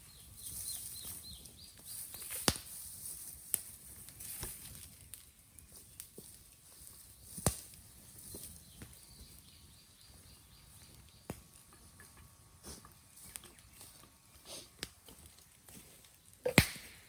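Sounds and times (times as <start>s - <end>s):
bonfire crackling: 0.0s - 17.0s
sharp pops from fire: 0.9s - 9.4s, 10.7s - 15.5s, 16.3s - 17.0s.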